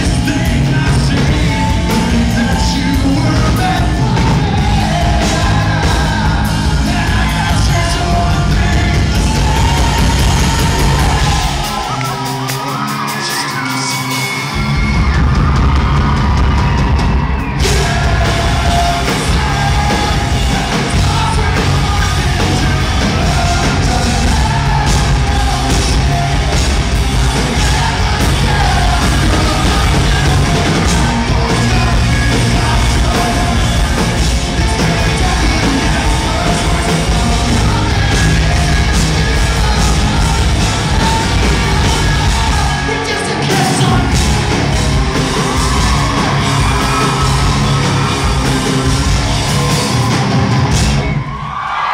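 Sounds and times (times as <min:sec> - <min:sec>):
man singing and yelling: 0:00.0 - 0:16.2, 0:17.4 - 0:50.8
live rock band playing: 0:00.0 - 0:51.9.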